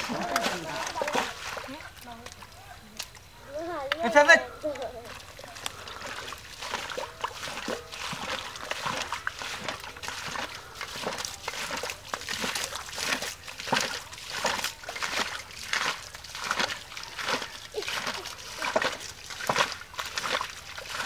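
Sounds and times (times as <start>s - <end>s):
hoe digging into wet mud: 0.0s - 2.1s, 5.1s - 21.0s
squelching in mud: 0.0s - 21.0s.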